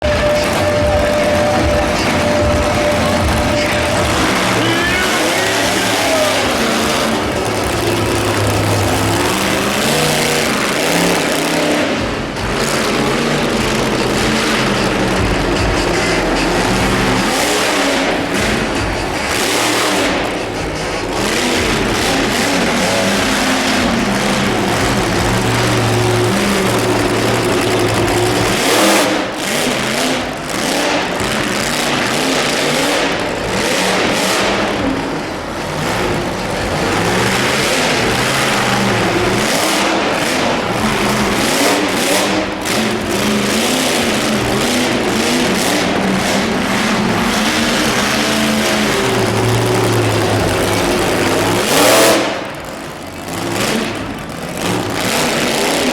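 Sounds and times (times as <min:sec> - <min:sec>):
monster truck engine revving: 0:00.0 - 0:55.9.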